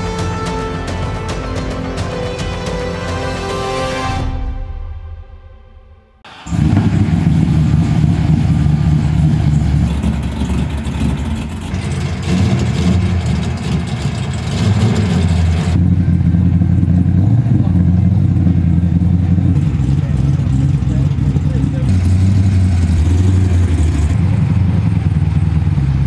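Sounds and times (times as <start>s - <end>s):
big engine rumbling: 0.0s - 26.0s.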